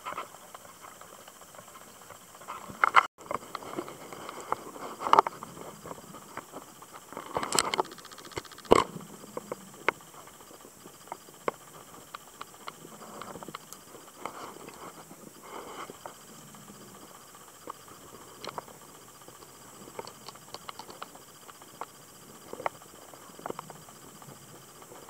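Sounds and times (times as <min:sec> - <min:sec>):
sharp underwater clicks and crackles: 0:00.0 - 0:25.0.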